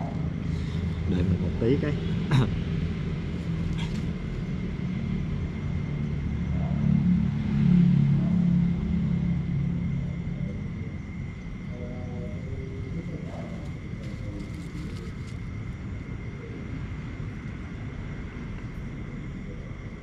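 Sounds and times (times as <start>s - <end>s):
low engine-like rumble: 0.0s - 20.0s.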